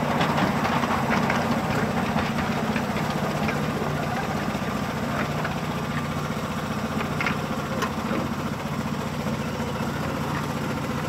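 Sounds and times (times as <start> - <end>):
small locomotive engine pulsing: 0.0 - 11.0.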